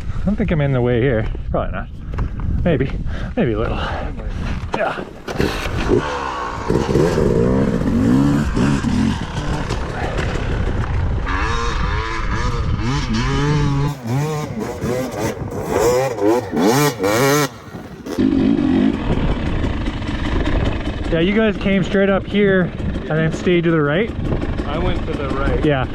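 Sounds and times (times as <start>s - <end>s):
dirt bike engines revving: 3.2s - 25.9s.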